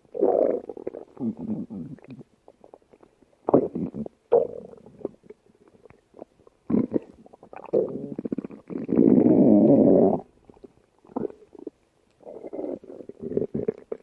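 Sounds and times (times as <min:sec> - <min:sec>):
stomach growling and gurgling: 0:00.2 - 0:14.0.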